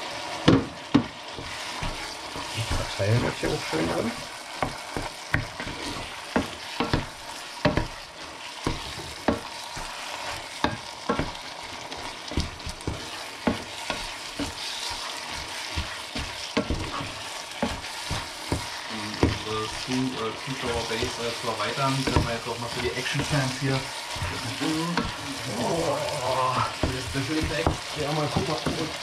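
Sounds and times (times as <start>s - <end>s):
meat sizzling in a pan: 0.0s - 29.0s
wooden spatula scraping a pan: 0.0s - 29.0s.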